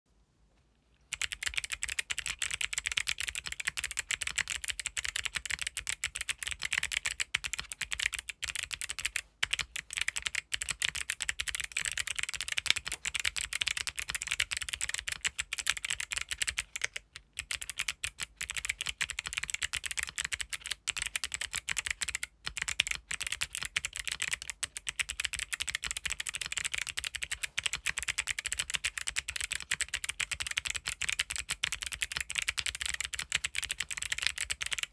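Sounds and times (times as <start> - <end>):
fast typing on clicky keyboard: 1.1 - 34.9.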